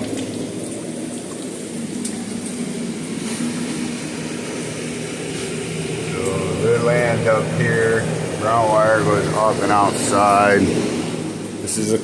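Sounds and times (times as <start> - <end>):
fans whirring and humming: 0.0 - 12.0.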